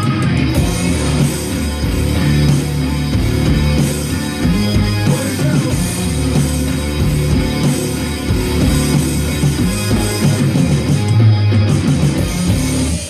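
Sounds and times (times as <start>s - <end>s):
hard rock music: 0.0s - 13.0s.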